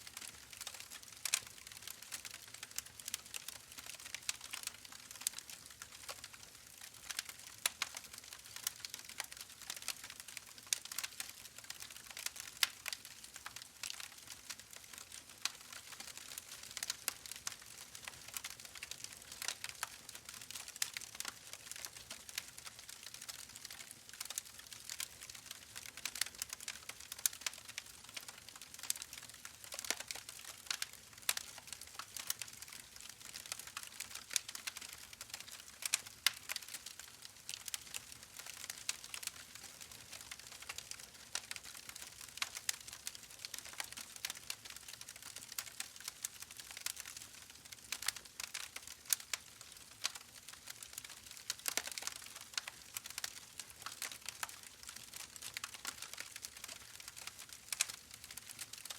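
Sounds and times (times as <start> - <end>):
campfire crackling: 0.1 - 58.9.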